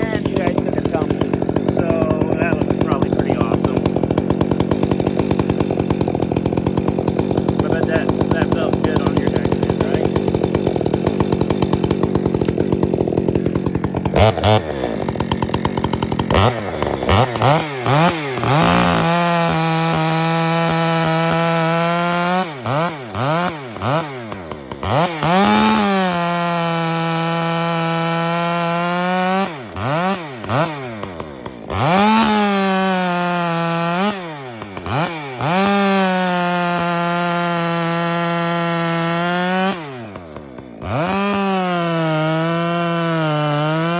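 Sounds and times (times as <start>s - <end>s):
chainsaw revving and cutting: 0.0s - 43.9s.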